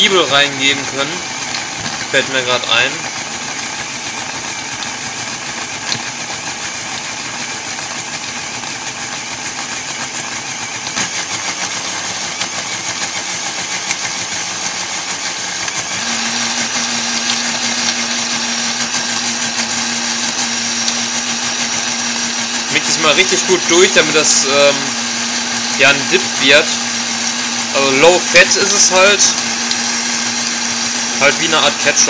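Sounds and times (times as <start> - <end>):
blender running: 0.0 - 32.0.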